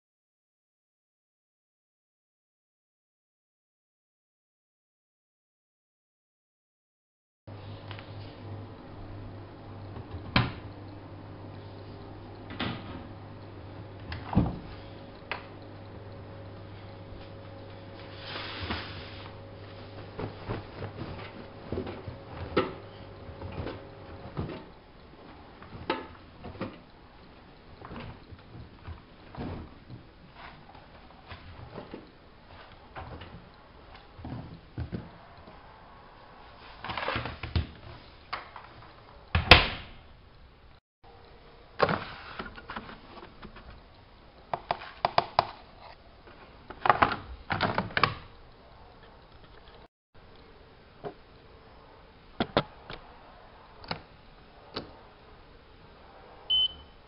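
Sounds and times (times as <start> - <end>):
washing machine humming: 7.5 - 57.0.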